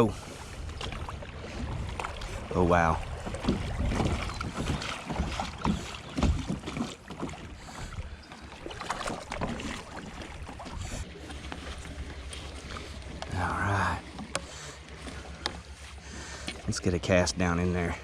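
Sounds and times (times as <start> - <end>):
kayak hull knocks and thumps: 0.0 - 16.8
water rushing and splashing: 0.0 - 18.0.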